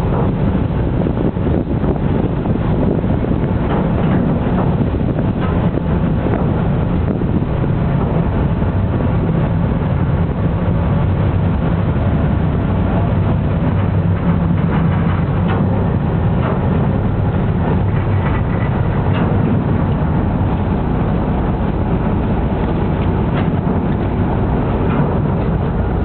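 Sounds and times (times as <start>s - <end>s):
ferry engines droning: 0.0s - 26.0s
wind rumbling on microphone: 0.0s - 26.0s.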